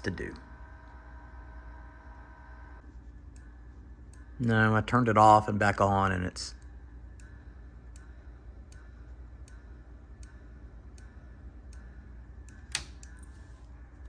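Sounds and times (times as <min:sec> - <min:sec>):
power supply ticking: 0:00.0 - 0:04.8, 0:06.6 - 0:13.2
low hum: 0:00.0 - 0:14.0.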